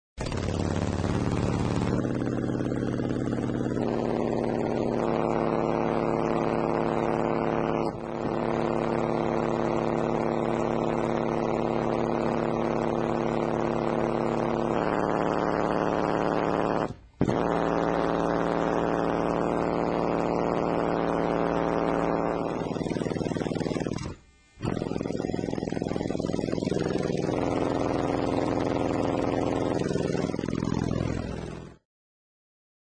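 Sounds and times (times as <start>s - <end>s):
subwoofer low bass tones: 0.3s - 31.4s.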